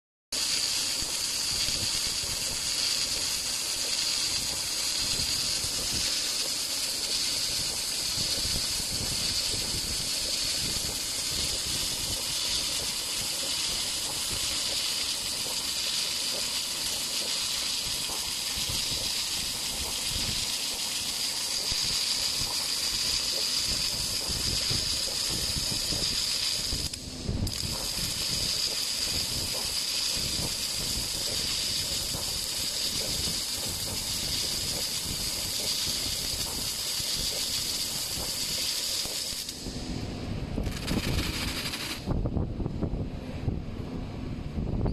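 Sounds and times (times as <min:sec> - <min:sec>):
tape rewinding machine hissing: 0:00.4 - 0:27.0, 0:27.6 - 0:39.5, 0:40.7 - 0:42.2.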